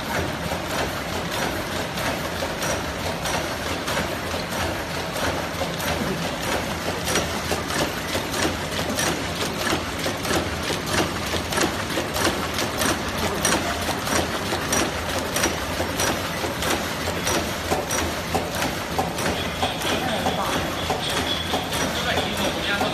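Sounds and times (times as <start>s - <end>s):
machine clattering and knocking: 0.0s - 22.9s.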